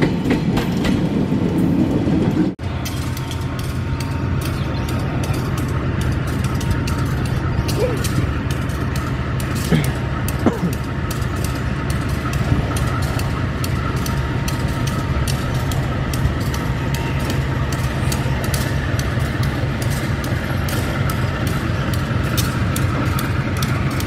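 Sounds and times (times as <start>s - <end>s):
diesel locomotive engine drone: 0.0s - 24.0s
train wheels clicking on track: 0.0s - 24.0s.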